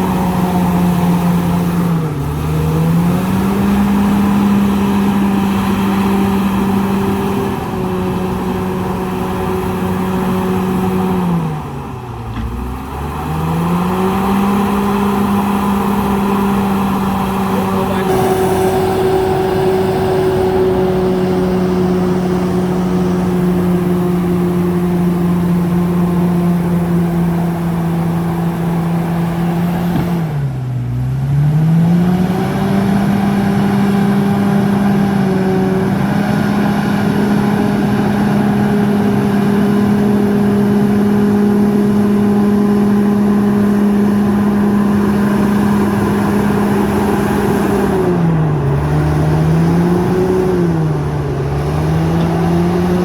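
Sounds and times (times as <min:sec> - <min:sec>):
bulldozer diesel engine revving: 0:00.0 - 0:53.0.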